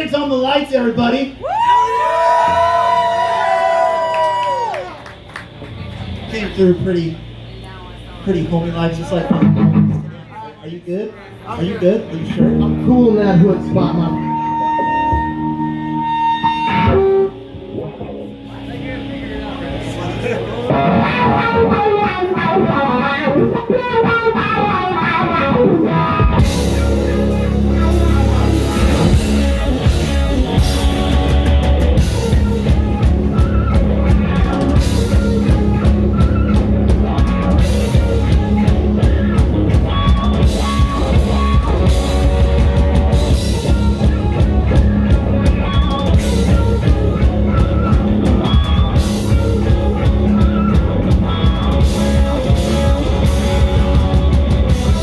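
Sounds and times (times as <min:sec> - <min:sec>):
rock band playing: 0:08.4 - 0:10.3, 0:11.6 - 0:55.0
electric guitar: 0:09.1 - 0:10.3, 0:12.0 - 0:55.0.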